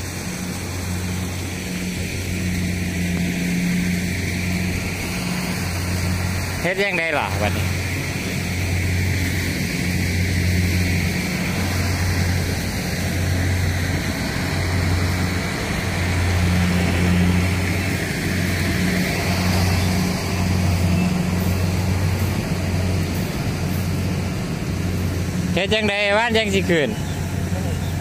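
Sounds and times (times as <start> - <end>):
truck engine droning under load: 0.0 - 28.0.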